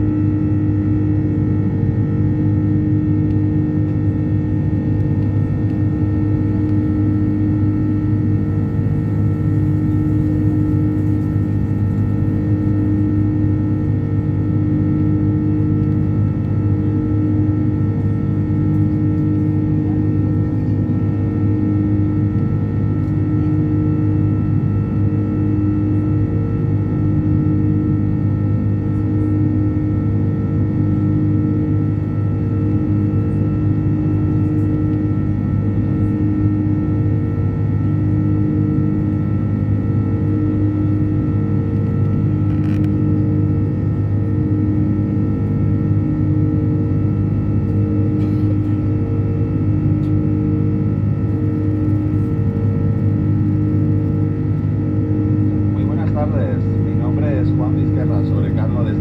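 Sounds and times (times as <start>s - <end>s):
jet engines in aircraft cabin: 0.0s - 59.0s.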